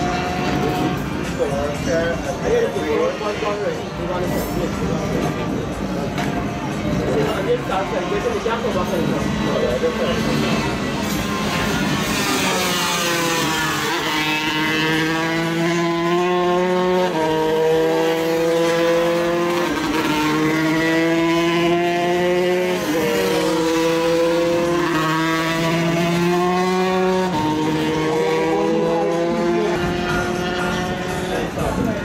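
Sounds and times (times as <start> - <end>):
motorcycle engine at full throttle: 0.0 - 32.0.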